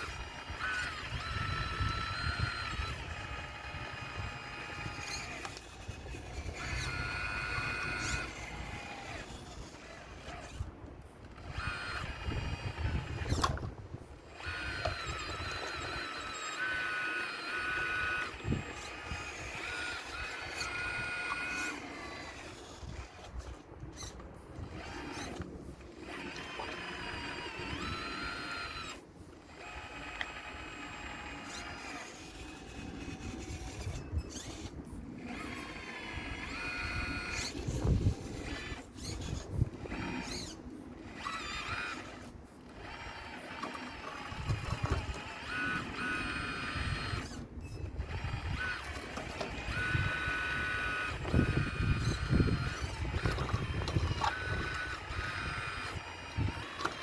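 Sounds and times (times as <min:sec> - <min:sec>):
model excavator motors whining: 0:00.0 - 0:57.0.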